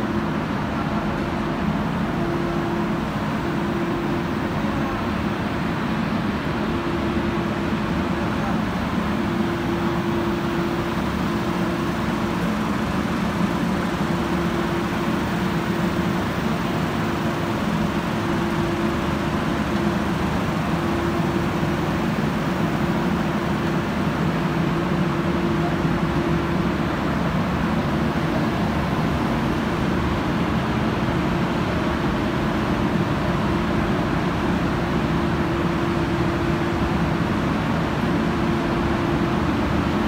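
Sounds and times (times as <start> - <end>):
motors and fans droning: 0.0 - 40.0.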